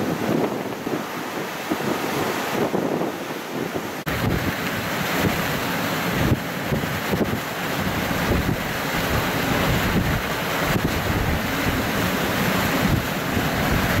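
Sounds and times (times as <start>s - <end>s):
strong wind gusting: 0.0s - 14.0s
wind buffeting microphone: 0.0s - 14.0s.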